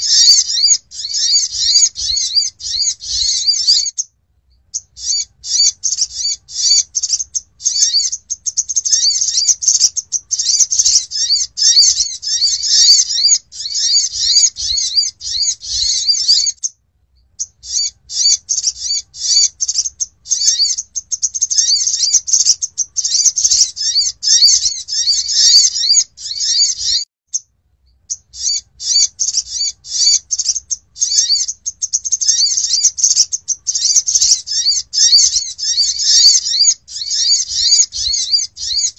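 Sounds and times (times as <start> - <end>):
sunbird chattering twitters: 0.0 - 4.1, 4.7 - 16.7, 17.4 - 27.4, 28.1 - 38.9.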